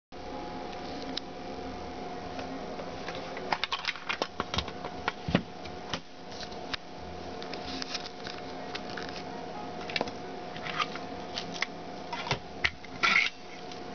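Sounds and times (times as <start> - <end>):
steady tonal hum: 0.2 - 13.9.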